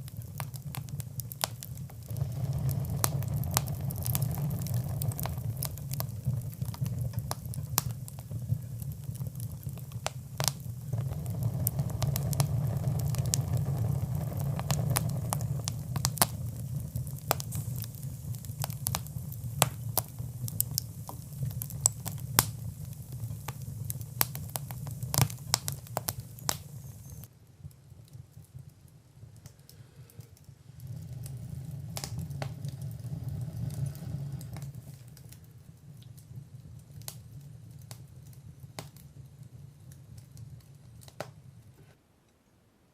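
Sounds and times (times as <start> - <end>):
wood fire crackling: 0.0 - 42.4.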